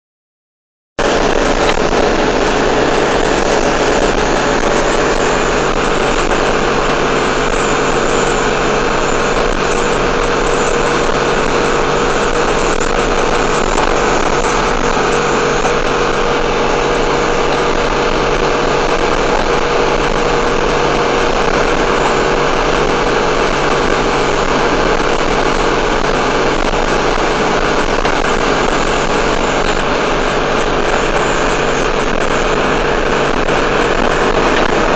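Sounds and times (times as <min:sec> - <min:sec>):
truck engine and road drone: 0:01.0 - 0:34.9.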